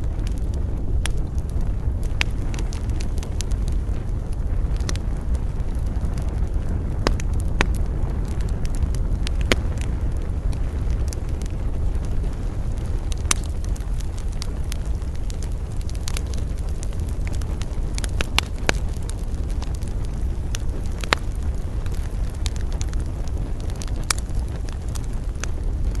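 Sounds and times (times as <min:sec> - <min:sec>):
campfire crackling and popping: 0:00.0 - 0:26.0
low fire rumble: 0:00.0 - 0:26.0.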